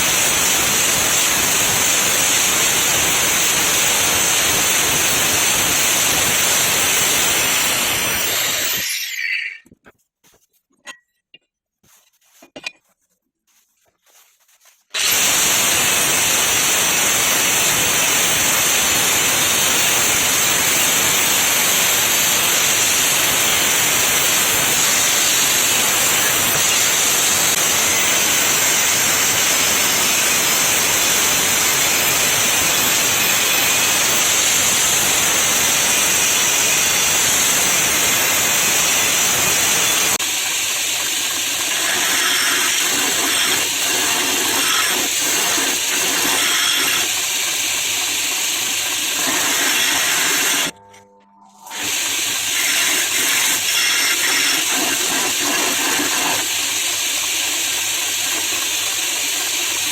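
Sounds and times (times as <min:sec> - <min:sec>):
power tool grinding steel: 0:00.0 - 0:09.7, 0:14.9 - 0:56.6.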